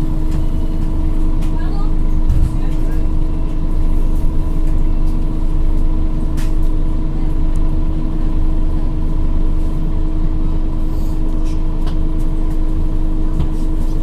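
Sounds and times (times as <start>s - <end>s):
bus engine and road rumble: 0.0s - 14.0s
constant hum: 0.0s - 14.0s.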